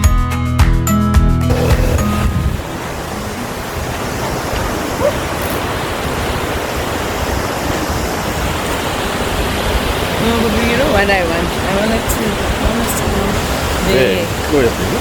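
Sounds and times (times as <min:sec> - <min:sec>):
river water rushing over rocks: 0:01.5 - 0:15.0.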